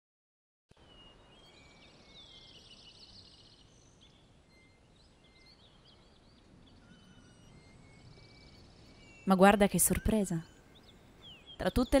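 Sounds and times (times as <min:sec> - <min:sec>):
low steady background noise: 0:00.7 - 0:12.0
small birds chirping: 0:00.7 - 0:12.0
bird trill: 0:00.8 - 0:12.0.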